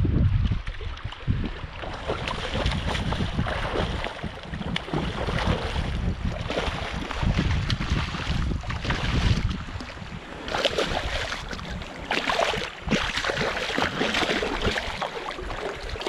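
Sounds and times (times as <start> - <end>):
wind buffeting microphone: 0.0 - 16.0
surf washing: 1.6 - 16.0.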